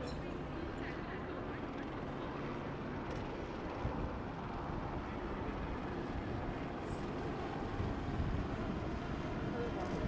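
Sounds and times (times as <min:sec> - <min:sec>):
aircraft engine: 0:00.0 - 0:10.0.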